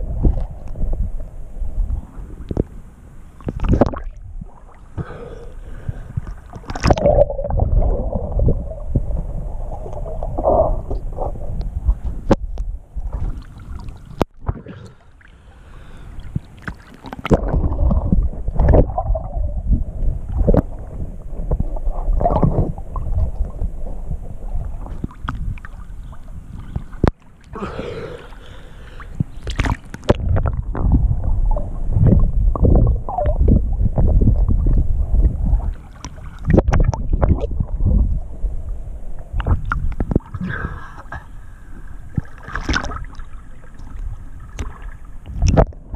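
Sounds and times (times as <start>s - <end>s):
muffled underwater water rumbling: 0.0s - 45.9s.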